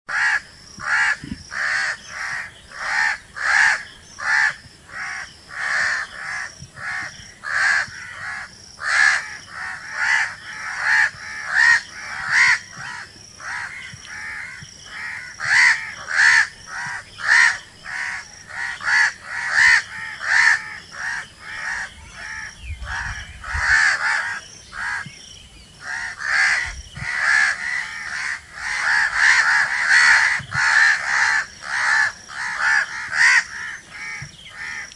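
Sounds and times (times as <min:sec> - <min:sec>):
crows cawing: 0:00.1 - 0:25.1, 0:25.8 - 0:34.9.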